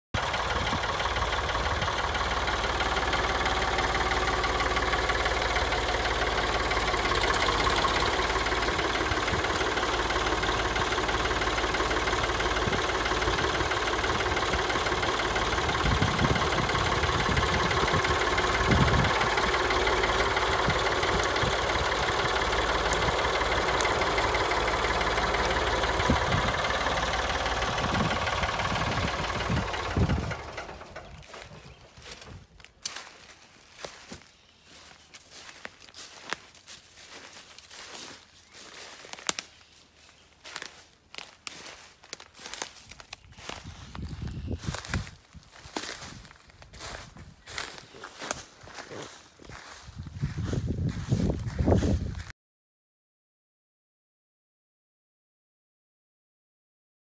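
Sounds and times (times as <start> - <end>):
tractor engine running: 0.1 - 52.3.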